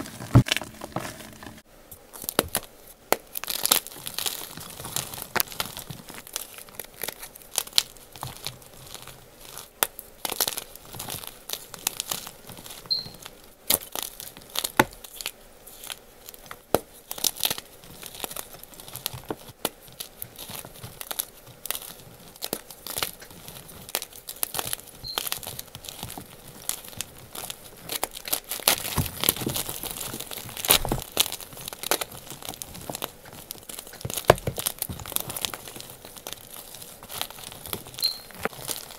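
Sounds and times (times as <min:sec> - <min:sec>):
chalk crunching by hand: 0:02.2 - 0:38.9.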